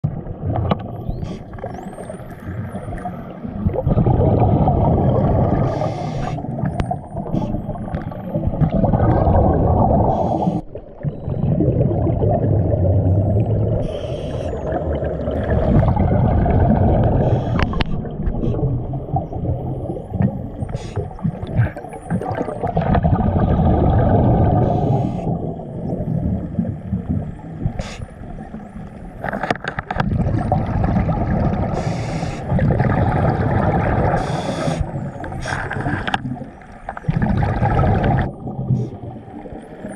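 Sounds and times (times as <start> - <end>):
underwater rush of moving water: 0.0 - 39.9.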